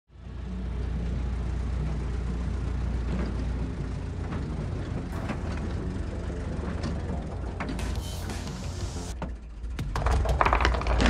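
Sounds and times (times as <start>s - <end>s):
truck engine idling: 0.2s - 11.0s.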